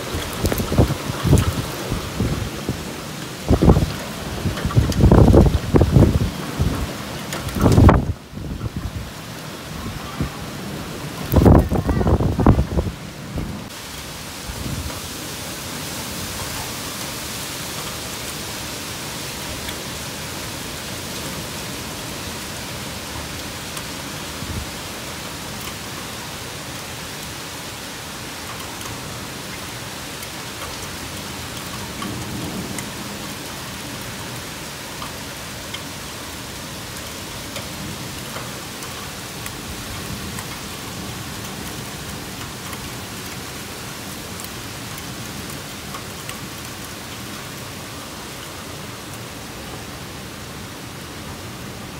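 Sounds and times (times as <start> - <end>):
heavy rain pouring: 0.0 - 51.9
raindrops ticking on surfaces: 0.0 - 51.9.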